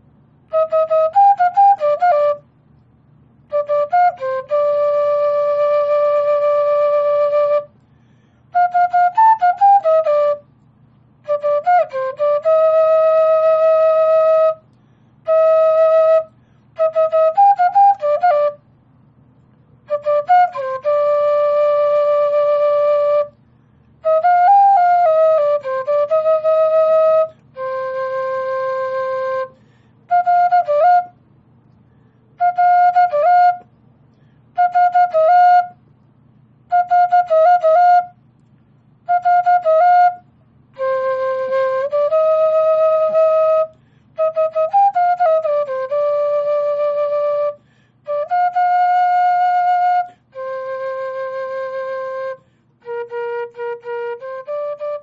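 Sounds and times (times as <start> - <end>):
slow solo flute melody: 0.0 - 55.0.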